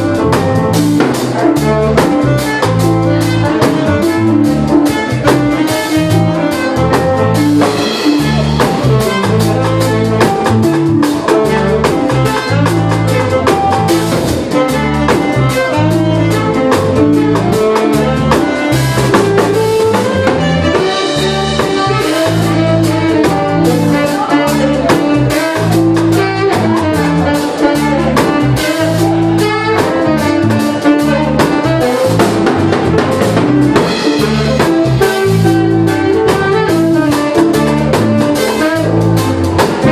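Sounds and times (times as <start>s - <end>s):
busy drum beat: 0.0s - 39.9s
jazz fusion band playing: 0.0s - 39.9s.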